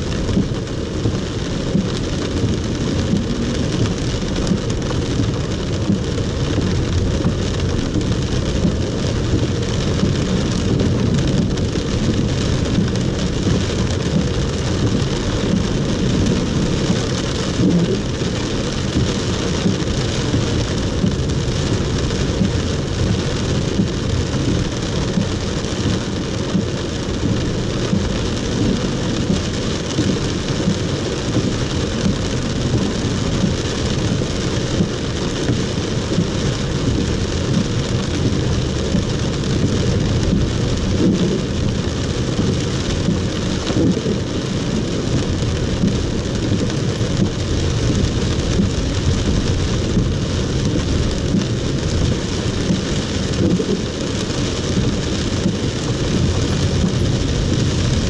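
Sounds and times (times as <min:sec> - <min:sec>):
deep rumble: 0:00.0 - 0:58.0
heavy rain on car roof: 0:00.0 - 0:58.0.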